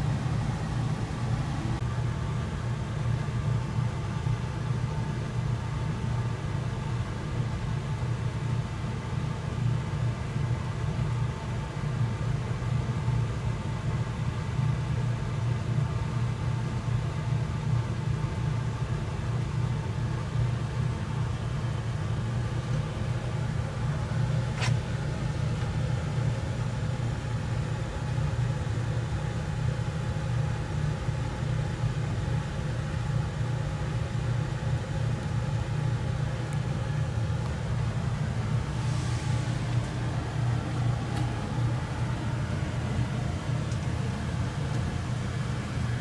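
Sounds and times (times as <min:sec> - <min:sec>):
air conditioner unit humming: 0:00.0 - 0:46.0.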